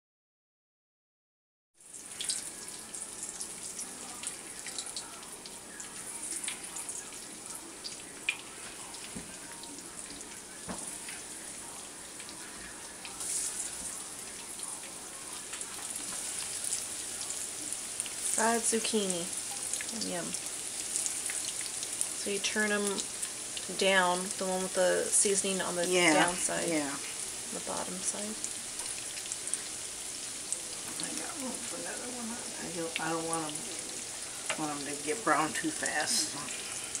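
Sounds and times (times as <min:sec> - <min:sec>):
food sizzling in frying oil: 0:01.8 - 0:37.0.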